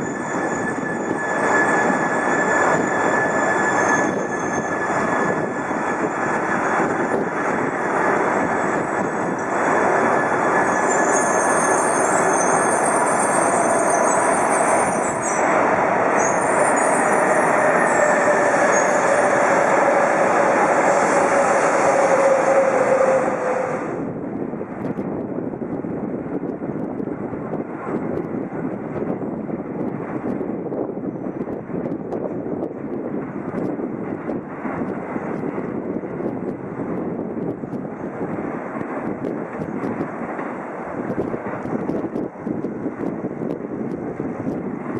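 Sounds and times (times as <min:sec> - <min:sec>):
train rushing past: 0:00.0 - 0:44.9.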